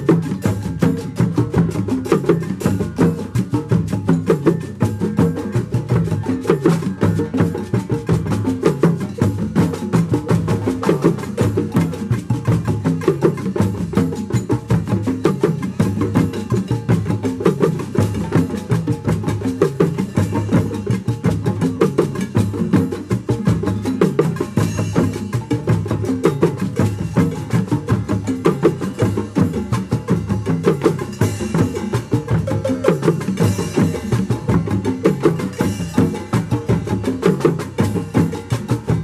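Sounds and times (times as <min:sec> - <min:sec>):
cowbells struck: 0:00.0 - 0:39.0
hand drums playing: 0:00.0 - 0:39.0
mallets striking drum heads: 0:00.0 - 0:39.0.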